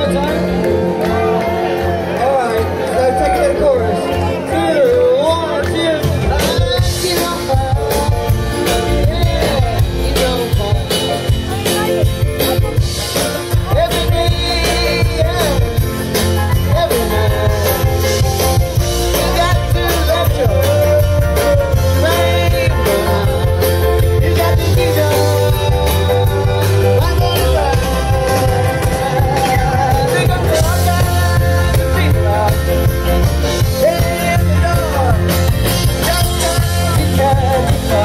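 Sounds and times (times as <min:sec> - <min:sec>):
acoustic guitar: 0:00.0 - 0:38.0
bass: 0:00.0 - 0:38.0
drums: 0:00.0 - 0:38.0
man singing: 0:00.0 - 0:38.0.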